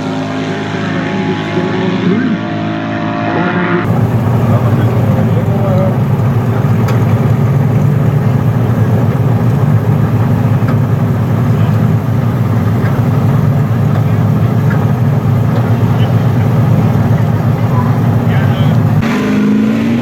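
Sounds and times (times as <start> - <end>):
engine idling: 3.6 - 20.0.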